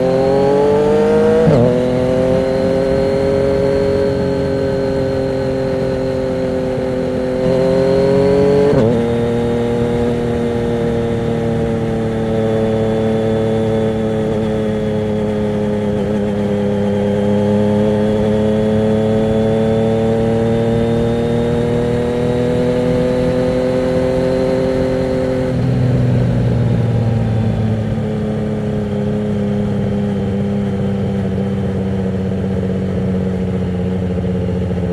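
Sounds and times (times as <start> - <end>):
loud motorcycle engine: 0.0 - 34.9.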